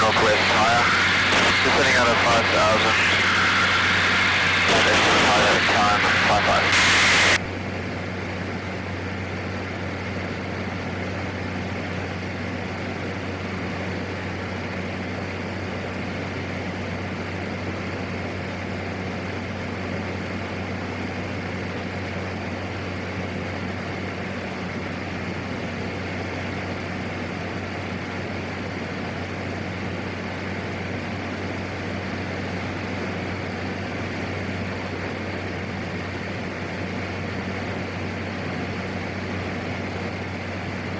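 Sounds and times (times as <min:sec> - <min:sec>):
turboprop engine drone in cockpit: 0:00.0 - 0:40.9.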